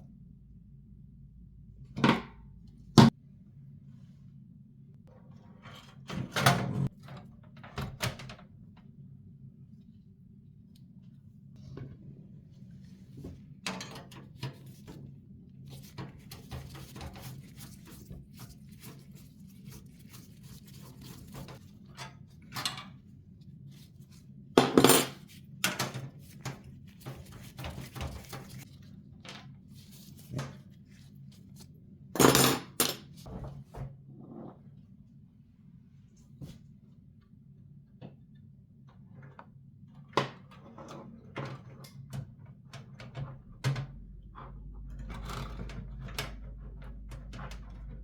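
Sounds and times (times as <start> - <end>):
low steady hum: 0.0 - 40.0, 41.9 - 48.0.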